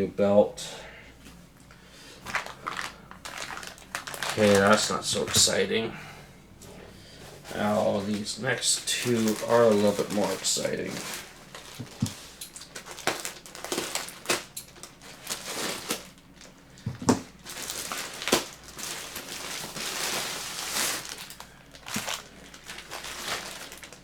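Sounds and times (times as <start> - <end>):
packaging crinkling and rustling: 2.2 - 5.7, 7.4 - 24.0.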